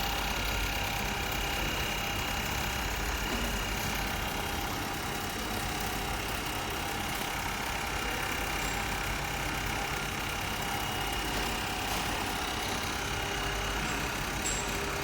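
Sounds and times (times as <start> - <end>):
sewing machine running: 0.0 - 15.0.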